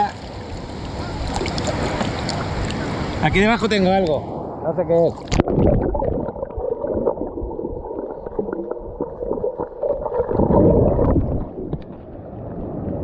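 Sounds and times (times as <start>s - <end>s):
sea water sloshing and gurgling: 0.0s - 3.3s, 4.4s - 13.0s.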